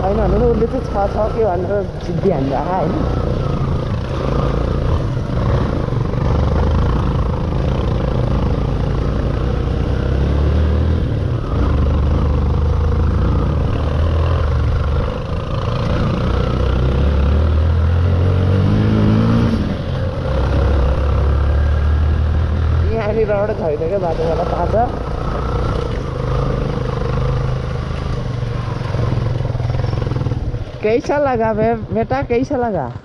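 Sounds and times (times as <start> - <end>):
motorcycle engine on dirt trail: 0.0 - 33.0.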